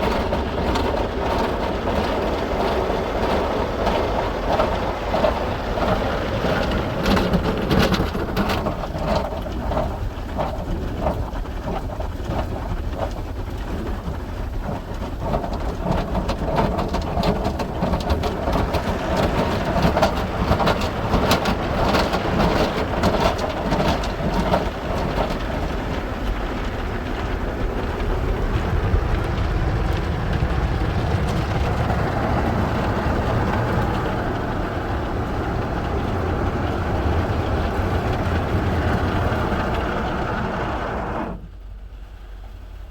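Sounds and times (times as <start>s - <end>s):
car wash machinery rumble: 0.0s - 42.9s.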